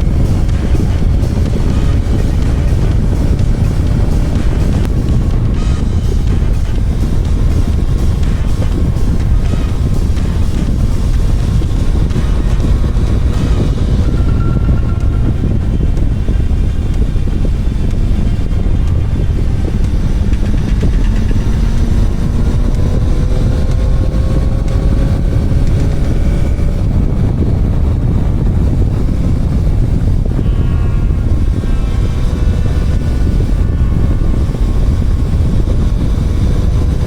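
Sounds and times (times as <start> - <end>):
motorcycle engine: 0.0 - 37.0
wind noise rushing: 0.0 - 37.0.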